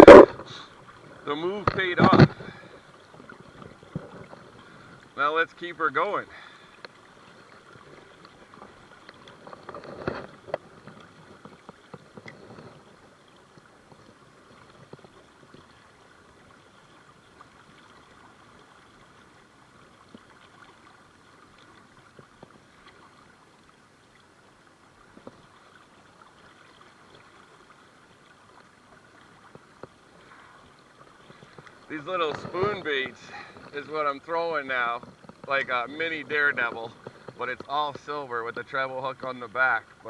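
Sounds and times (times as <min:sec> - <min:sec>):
river water flowing: 0:00.0 - 0:40.0.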